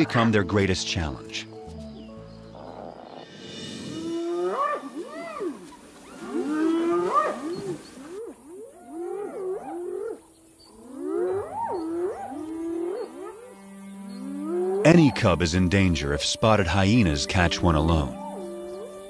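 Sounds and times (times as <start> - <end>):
hyenas calling: 2.4 - 13.6, 14.2 - 19.0.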